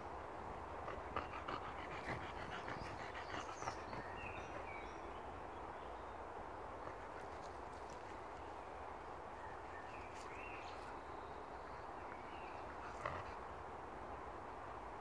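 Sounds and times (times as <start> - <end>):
breeze rustling trees: 0.0 - 15.0.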